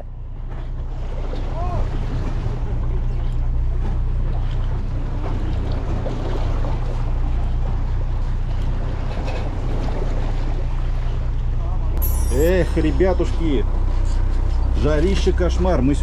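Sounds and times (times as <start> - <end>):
boat engine humming: 0.0 - 16.0
sea wash: 0.0 - 16.0
wind: 0.0 - 16.0.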